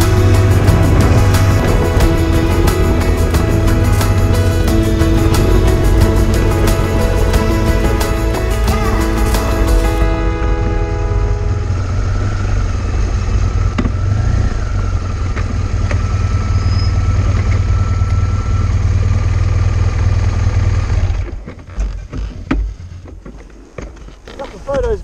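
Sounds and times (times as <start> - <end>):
motorcycle engine rumble: 0.0 - 24.2
wind and road noise: 0.0 - 25.0.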